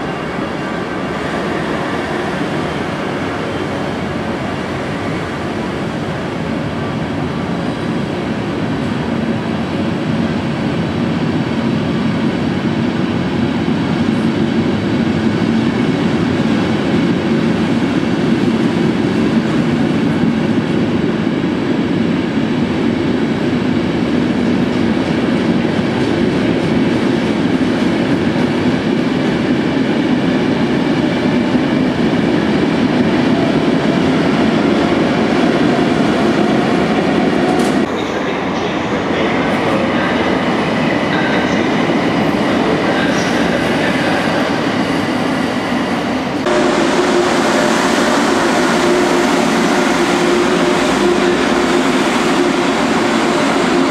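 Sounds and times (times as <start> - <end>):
passenger train rolling slowly: 0.0 - 53.9.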